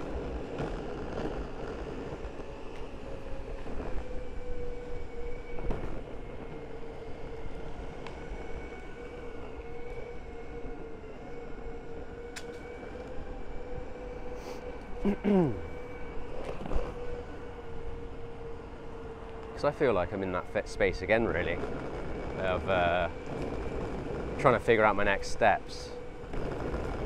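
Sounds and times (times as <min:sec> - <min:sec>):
wind buffeting microphone: 0:00.0 - 0:15.0, 0:15.6 - 0:27.0
skateboard wheels rumbling on pavement: 0:00.0 - 0:27.0
steady whine: 0:00.0 - 0:27.0.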